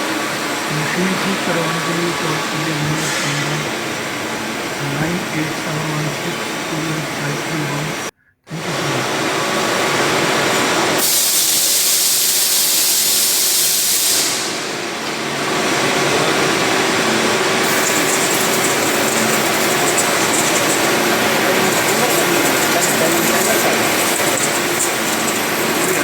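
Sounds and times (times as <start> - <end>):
milling machine running: 0.0 - 26.0
strong hiss: 0.0 - 26.0.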